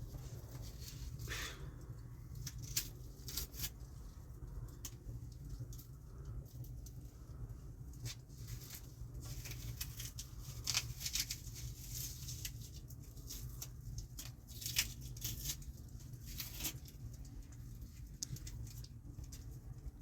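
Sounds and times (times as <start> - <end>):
small clicks and rustles: 0.0 - 20.0
steady low rumble: 0.0 - 20.0.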